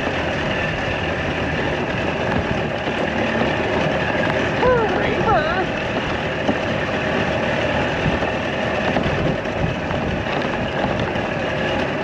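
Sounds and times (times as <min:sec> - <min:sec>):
freight train passing: 0:00.0 - 0:12.0
golf cart on gravel: 0:00.0 - 0:12.0.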